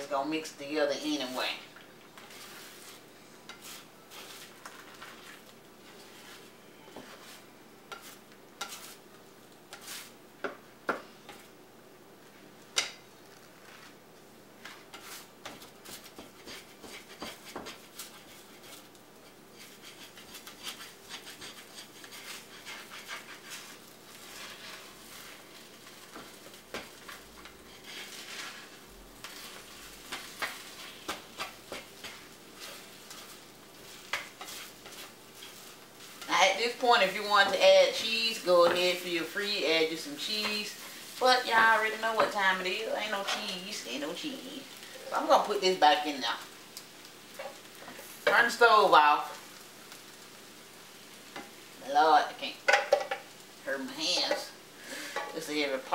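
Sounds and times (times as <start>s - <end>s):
eggs sizzling faintly: 0.0s - 55.9s
spatula scraping a skillet: 2.2s - 11.5s, 12.7s - 14.0s, 14.6s - 51.7s, 52.5s - 55.9s.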